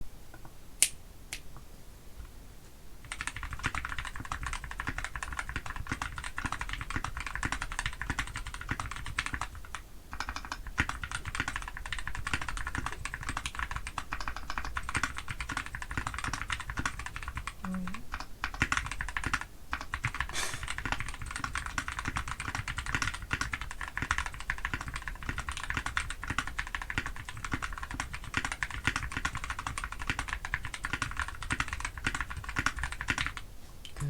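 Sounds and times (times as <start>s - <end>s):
typing on mechanical keyboard: 3.0s - 33.4s.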